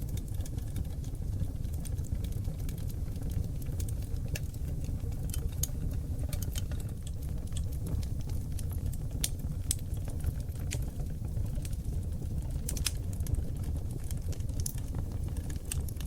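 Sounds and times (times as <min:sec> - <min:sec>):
fire flames rumbling: 0:00.0 - 0:16.0
wood fire crackles and pops: 0:00.0 - 0:16.0.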